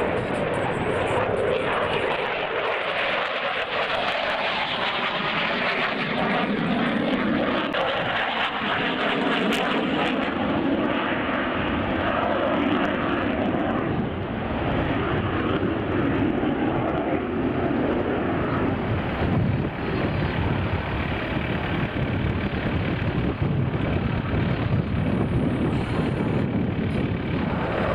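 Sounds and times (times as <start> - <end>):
aircraft engine rushing: 0.0 - 27.9.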